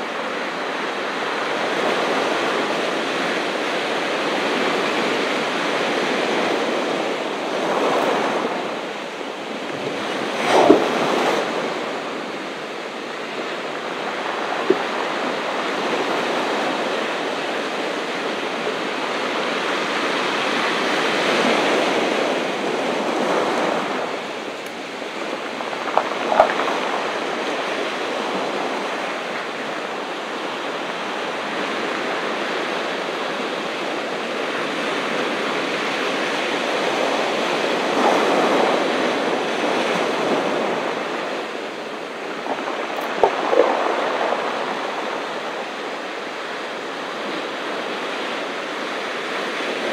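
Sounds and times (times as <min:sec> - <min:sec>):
ocean surf washing on beach: 0:00.0 - 0:49.9.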